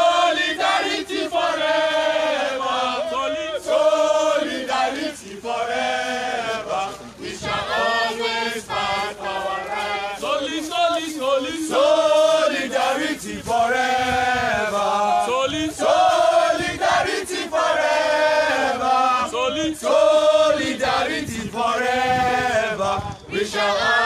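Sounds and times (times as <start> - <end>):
group chanting a protest song: 0.0 - 24.0.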